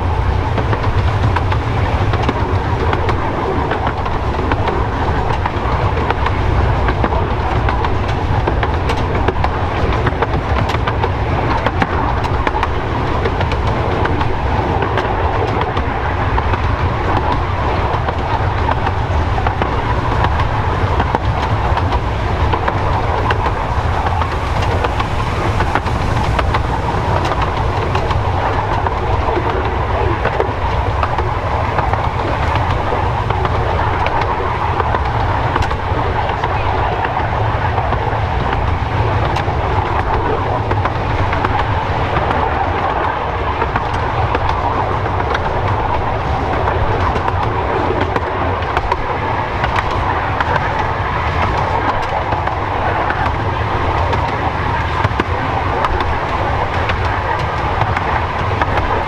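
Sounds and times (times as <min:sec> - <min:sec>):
train wheels clattering on track: 0:00.0 - 0:59.0.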